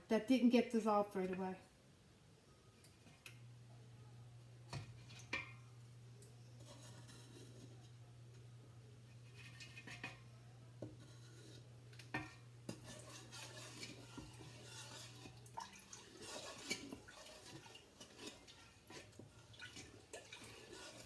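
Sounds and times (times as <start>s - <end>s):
spoon stirring in saucepan: 2.7s - 21.0s.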